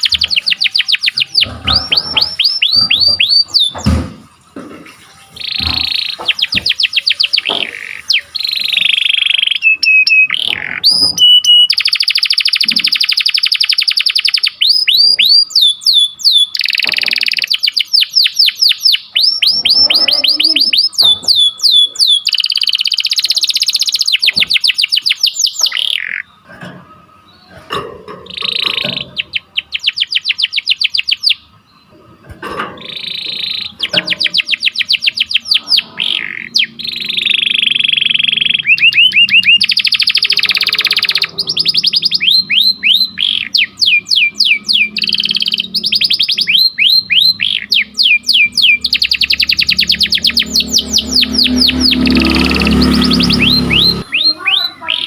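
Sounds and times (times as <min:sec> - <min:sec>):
canary singing: 0:00.0 - 0:04.2, 0:05.1 - 0:55.0.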